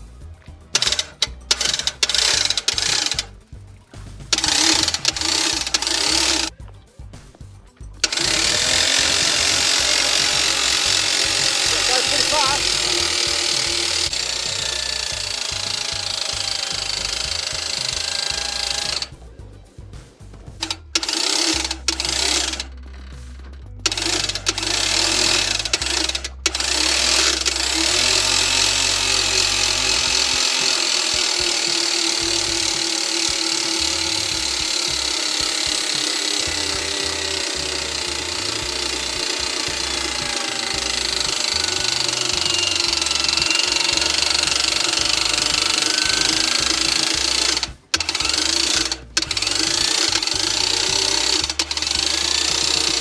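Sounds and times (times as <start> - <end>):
electric winch whirring: 0.0 - 6.6, 8.0 - 19.3, 20.5 - 53.0.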